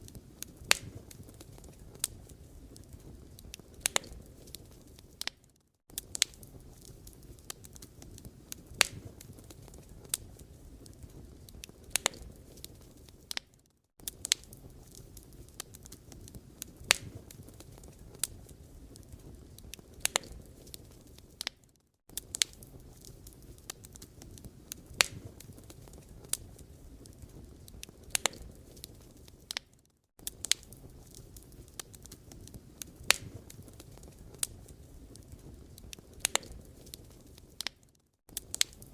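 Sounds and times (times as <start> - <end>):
firewood popping and snapping: 0.0 - 38.9.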